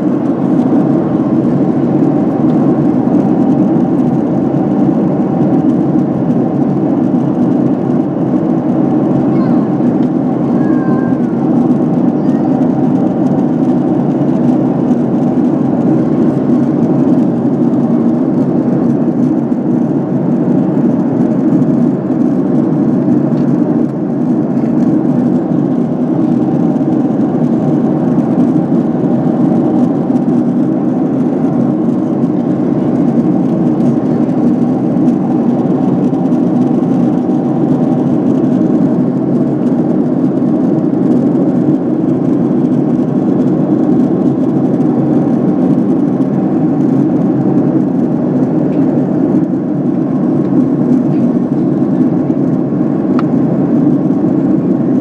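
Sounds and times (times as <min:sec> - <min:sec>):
airliner cabin engine rush: 0:00.0 - 0:55.0.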